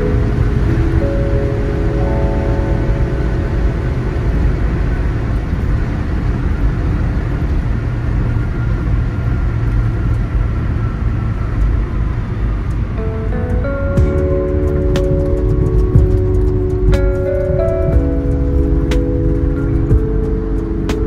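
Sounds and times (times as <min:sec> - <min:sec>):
car driving at highway speed: 0:00.0 - 0:21.0.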